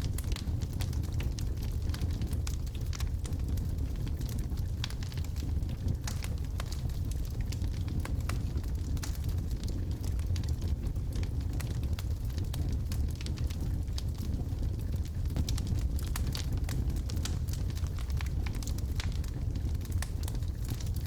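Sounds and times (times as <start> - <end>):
fire rumbling: 0.0 - 21.0
wood crackling and popping: 0.0 - 21.0.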